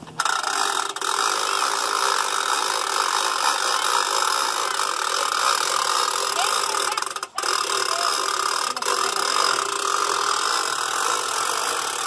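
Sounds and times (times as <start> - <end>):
hand-cranked winch rattling: 0.0 - 12.0.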